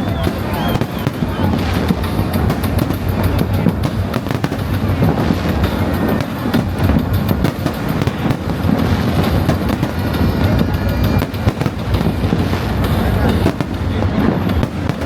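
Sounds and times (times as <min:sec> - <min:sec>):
deep fireworks booming: 0:00.0 - 0:15.0
fireworks bangs and crackles: 0:00.0 - 0:15.0.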